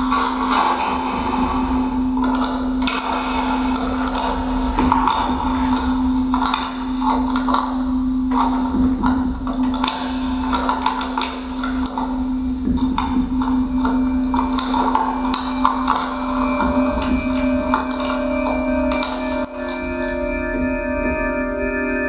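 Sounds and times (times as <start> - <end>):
shifting noisy textures: 0.0 - 22.0
steady held low tone: 0.0 - 22.0.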